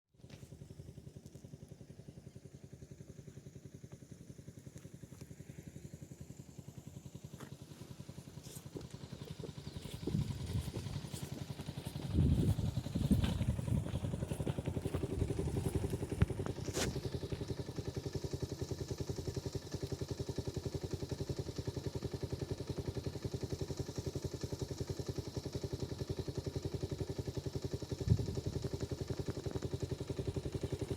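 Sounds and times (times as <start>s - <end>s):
engine running with fast pulse: 0.2s - 30.9s.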